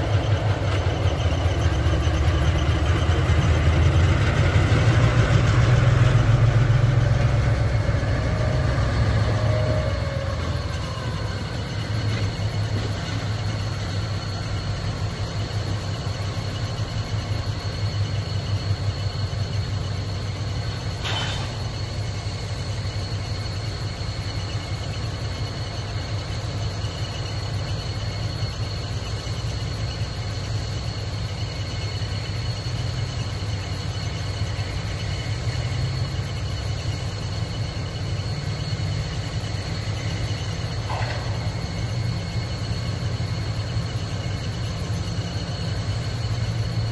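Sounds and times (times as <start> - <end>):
diesel locomotive rumbling: 0.0 - 46.9.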